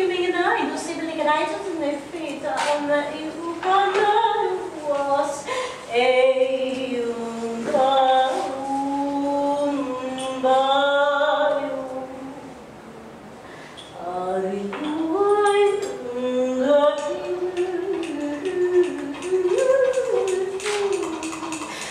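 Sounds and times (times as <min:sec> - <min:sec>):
woman singing long notes: 0:00.0 - 0:13.1, 0:14.0 - 0:21.9.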